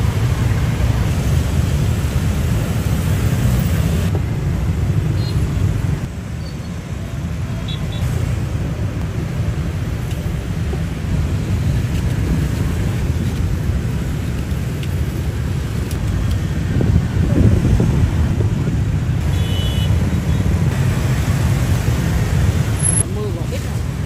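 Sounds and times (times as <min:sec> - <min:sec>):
low rumble of street traffic: 0:00.0 - 0:24.0.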